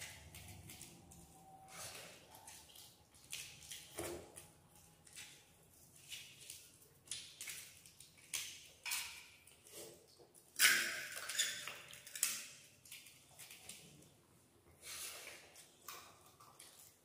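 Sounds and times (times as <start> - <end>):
hands mixing food on steel plates: 0.0 - 17.0.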